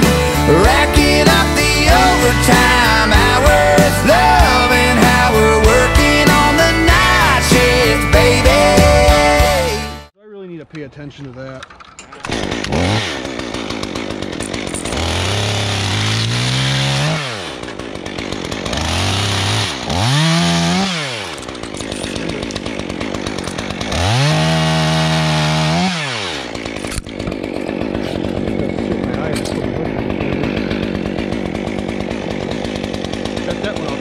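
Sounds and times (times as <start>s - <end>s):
chainsaw revving: 0.0s - 10.1s, 11.6s - 34.0s.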